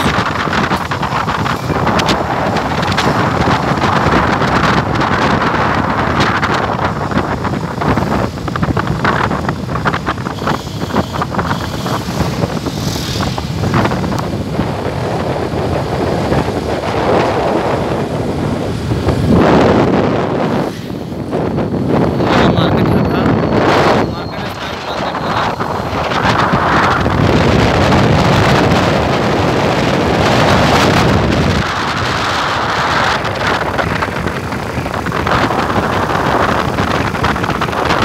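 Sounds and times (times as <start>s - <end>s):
vehicle road noise: 0.0s - 38.0s
wind rushing over microphone: 0.0s - 38.0s.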